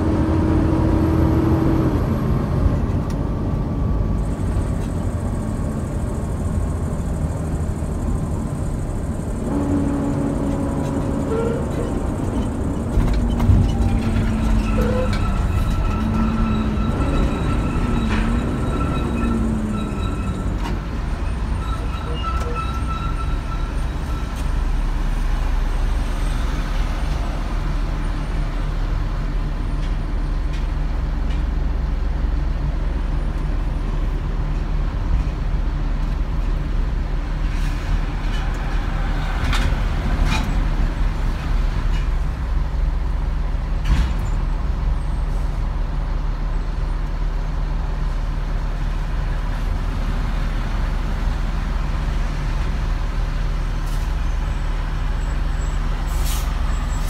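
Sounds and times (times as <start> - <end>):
road noise: 0.0 - 57.0
truck engine drone: 0.0 - 57.0.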